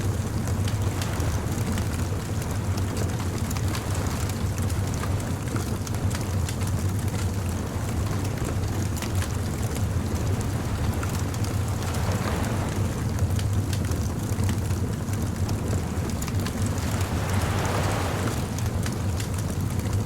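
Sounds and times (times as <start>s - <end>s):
bonfire crackling and popping: 0.1s - 20.0s.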